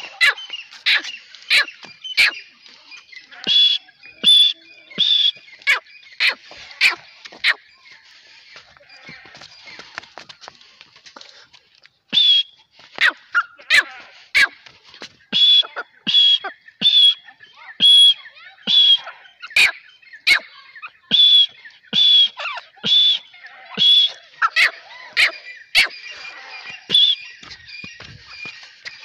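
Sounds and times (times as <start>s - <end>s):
francolin calling: 0.0s - 9.6s, 15.3s - 29.0s
sharp bird chirps: 0.0s - 10.0s, 15.2s - 29.0s.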